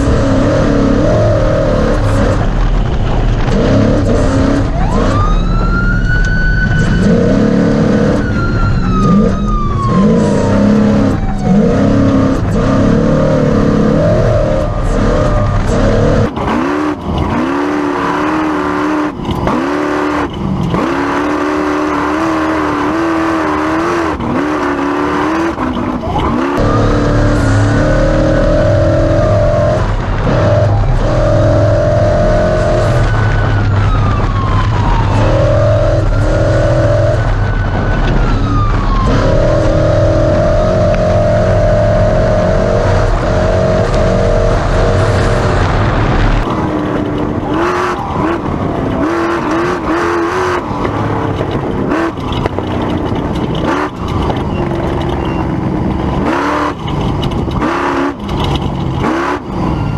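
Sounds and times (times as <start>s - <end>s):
knocks and rattles over rough ground: 0.0s - 59.9s
truck engine revving: 0.0s - 59.9s.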